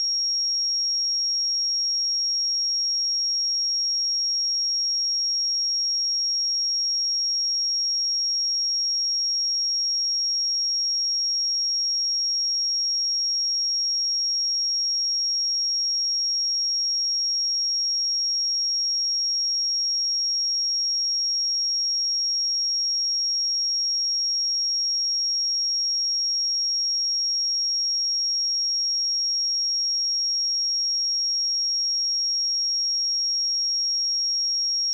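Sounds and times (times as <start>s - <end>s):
high-pitched sine-wave test tone: 0.0s - 34.9s.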